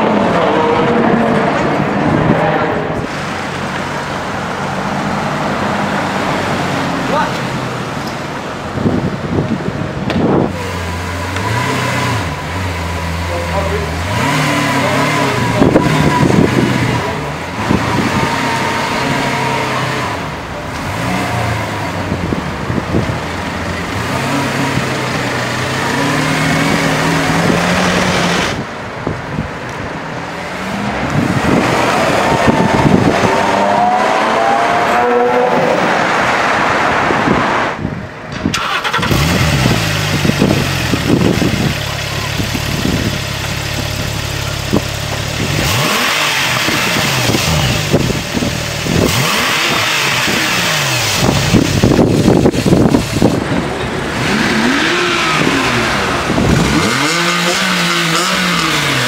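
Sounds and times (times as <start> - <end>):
car accelerating hard: 0.0 - 7.6, 10.2 - 28.7, 30.4 - 59.0
car engines revving: 0.0 - 59.0.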